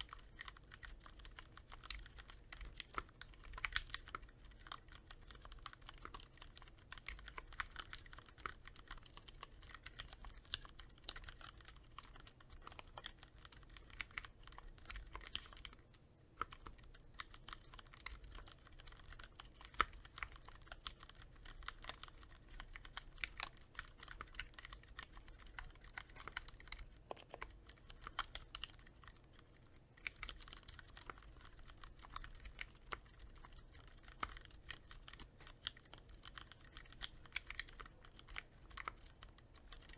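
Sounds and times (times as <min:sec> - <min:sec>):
typing on a keyboard: 0:00.0 - 0:39.9.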